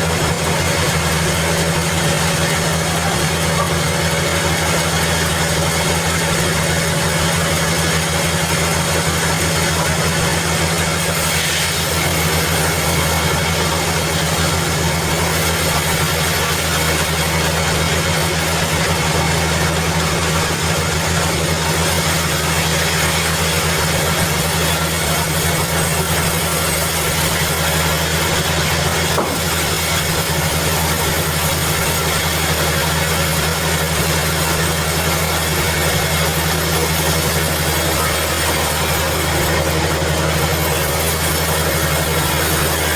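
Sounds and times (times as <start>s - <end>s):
band saw machinery drone: 0.0s - 42.9s.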